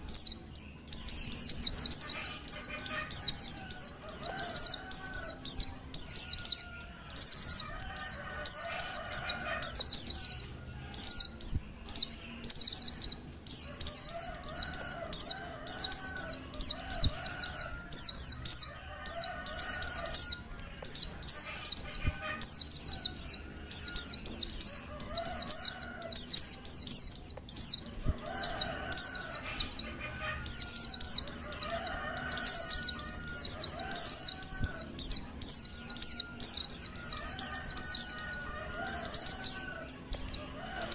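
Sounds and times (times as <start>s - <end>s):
fainter lower bird calls: 0.0s - 40.9s.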